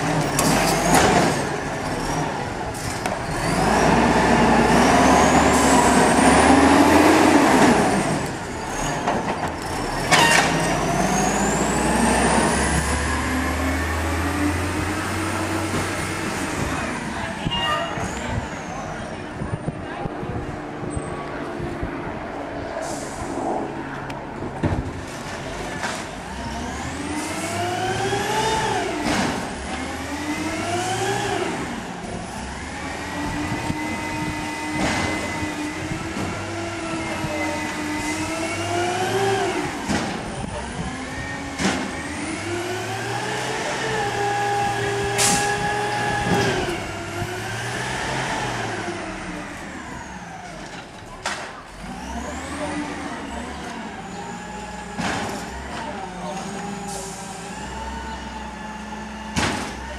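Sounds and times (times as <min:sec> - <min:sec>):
garbage truck engine revving: 0:00.0 - 0:19.1, 0:24.3 - 0:59.9.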